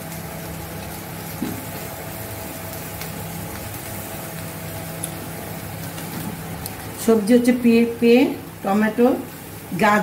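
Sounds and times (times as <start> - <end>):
chicken sizzling in a pan: 0.0 - 10.0.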